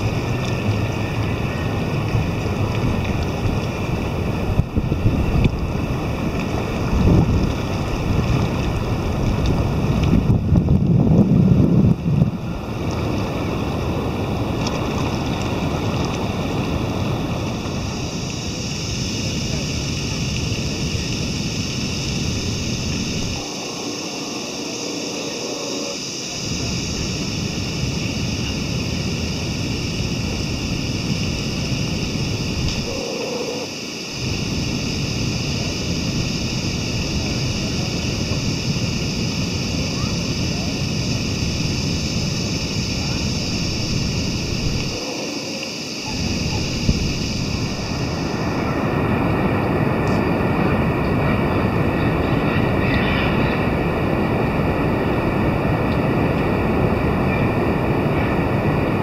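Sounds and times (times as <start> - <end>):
distant surf breaking: 0.0 - 59.0
wind buffeting microphone: 0.0 - 59.0.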